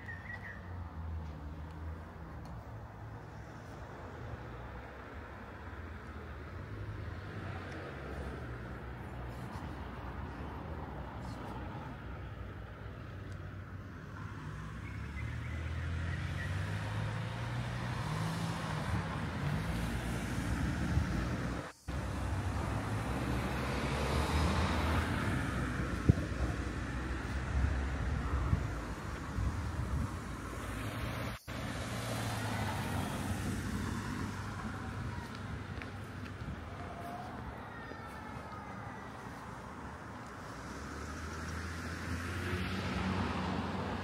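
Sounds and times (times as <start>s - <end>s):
cars passing on a street: 0.0s - 44.0s
road traffic noise: 0.0s - 44.0s
vehicle engine humming: 0.0s - 44.0s.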